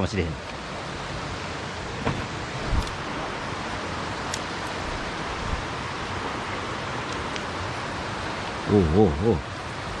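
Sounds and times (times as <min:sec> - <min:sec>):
mountain stream flowing: 0:00.0 - 0:10.0.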